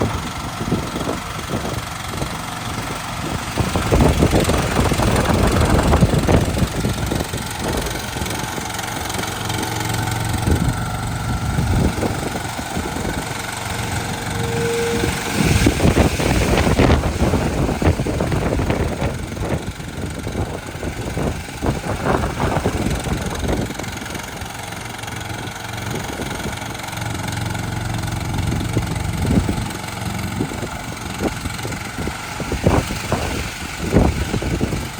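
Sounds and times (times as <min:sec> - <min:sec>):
small loader engine running: 0:00.0 - 0:34.9.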